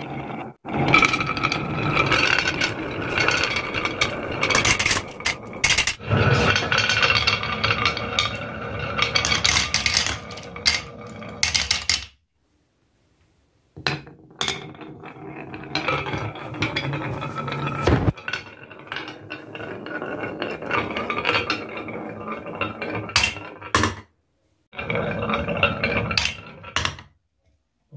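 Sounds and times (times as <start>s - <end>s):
marbles rolling in wooden grooves: 0.0s - 12.2s, 13.8s - 24.1s, 24.7s - 27.2s.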